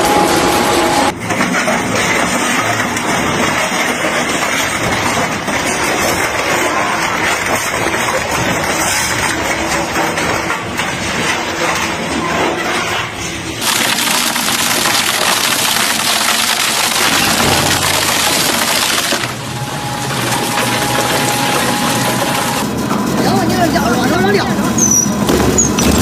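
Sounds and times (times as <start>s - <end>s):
crushing machine grinding: 0.0s - 26.0s.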